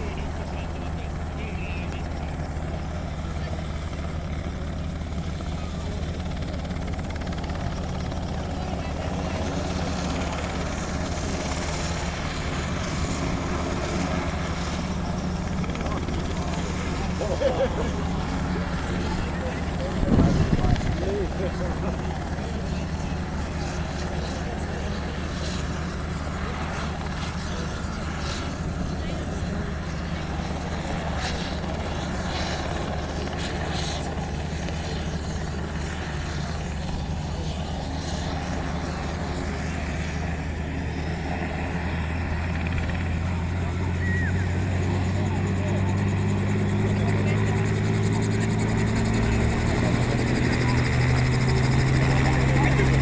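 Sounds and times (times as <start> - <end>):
helicopter engine and rotor drone: 0.0 - 53.0.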